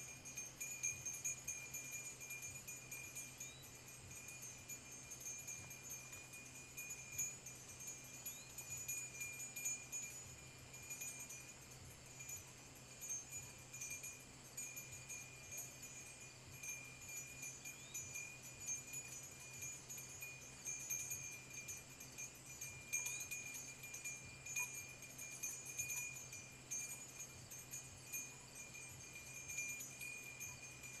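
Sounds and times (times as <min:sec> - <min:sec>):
high-pitched ringing drone: 0:00.0 - 0:31.0.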